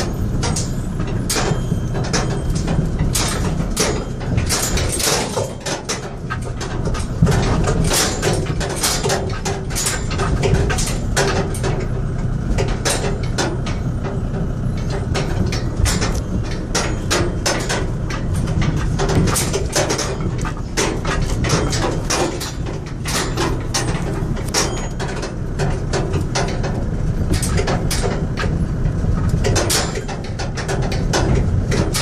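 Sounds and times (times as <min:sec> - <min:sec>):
car engine and tyres rumbling: 0:00.0 - 0:32.0
wheels knocking and rattling: 0:00.0 - 0:32.0.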